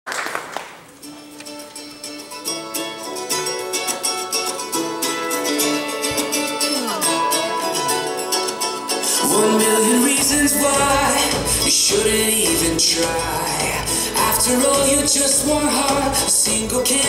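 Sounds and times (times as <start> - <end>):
pop worship music with plucked strings: 1.4 - 17.0.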